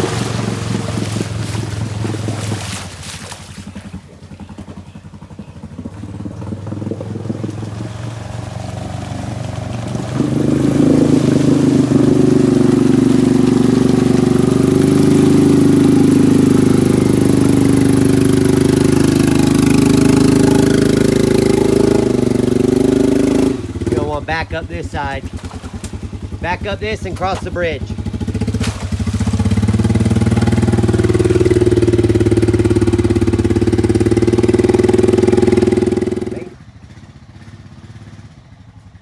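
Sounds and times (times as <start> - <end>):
tyres splashing through water: 0.0 - 36.5
atv engine running under load: 0.0 - 39.0.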